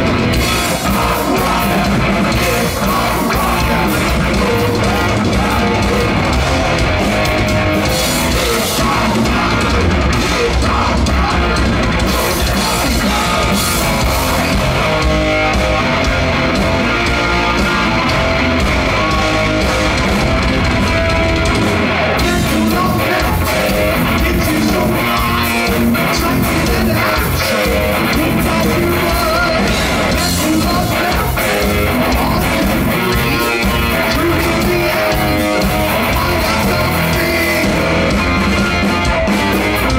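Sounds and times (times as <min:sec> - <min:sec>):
drum kit: 0:00.0 - 0:39.9
electric guitars: 0:00.0 - 0:39.9
heavy metal band playing live: 0:00.0 - 0:39.9.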